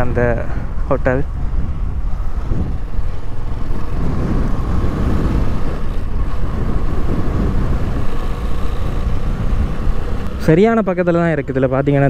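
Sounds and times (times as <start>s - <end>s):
wind buffeting microphone: 0.0s - 10.9s
motorcycle engine humming: 0.0s - 12.0s.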